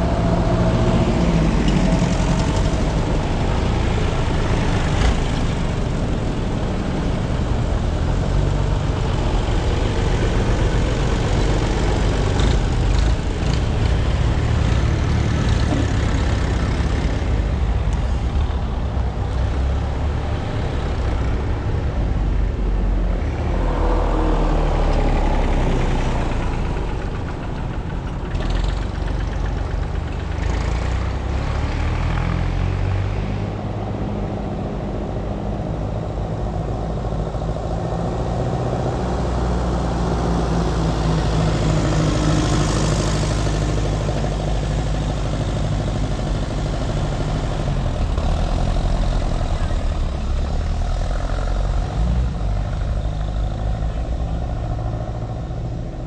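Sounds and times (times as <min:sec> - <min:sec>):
tractor engines droning: 0:00.0 - 0:56.0.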